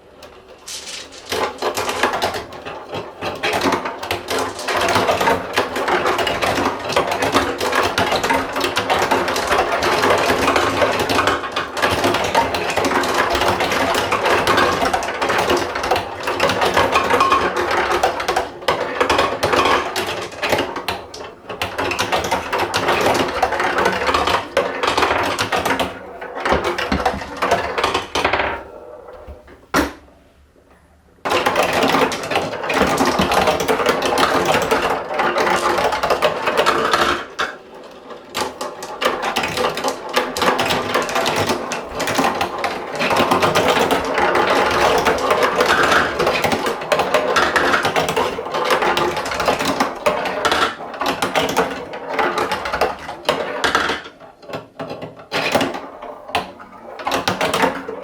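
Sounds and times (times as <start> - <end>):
marbles clattering along plastic track: 0.3 - 28.5, 31.3 - 58.0.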